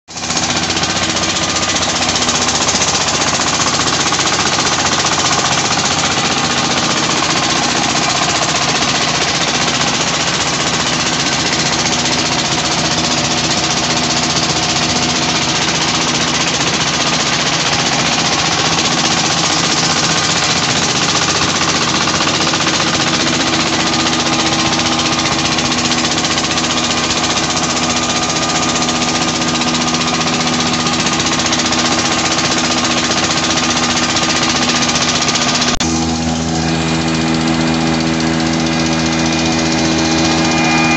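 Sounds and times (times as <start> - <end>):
diesel engine knocking steadily: 0.1 - 40.9.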